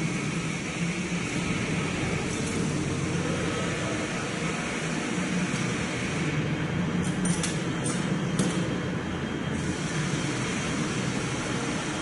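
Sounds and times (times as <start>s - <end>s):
large diesel engine running: 0.0s - 12.0s.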